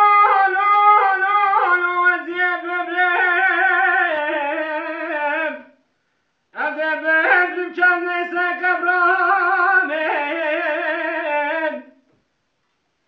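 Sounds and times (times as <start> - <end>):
man singing unaccompanied: 0.0 - 5.8, 6.5 - 12.0.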